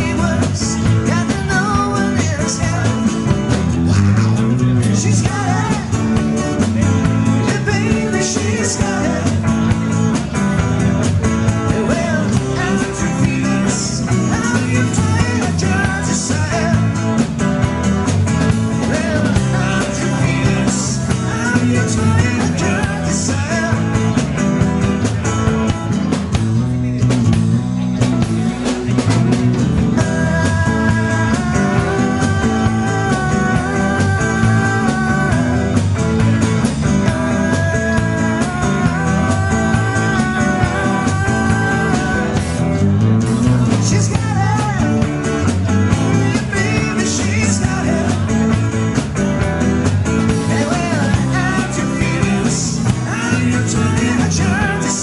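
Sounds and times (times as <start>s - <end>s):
acoustic guitar: 0.0s - 55.0s
drum kit: 0.0s - 55.0s
electric bass: 0.0s - 55.0s
electric guitar: 0.0s - 55.0s.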